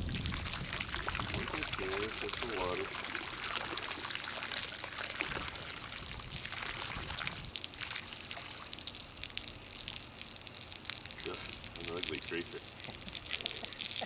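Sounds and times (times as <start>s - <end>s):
hose water splashing onto water: 0.0s - 14.0s.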